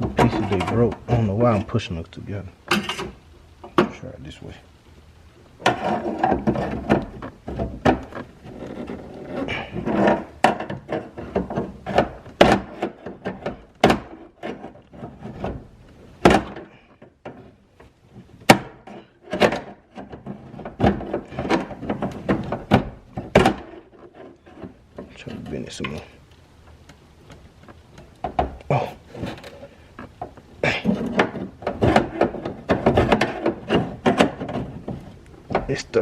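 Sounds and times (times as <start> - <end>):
plastic pieces clicking and scraping in window track: 5.6 - 36.0.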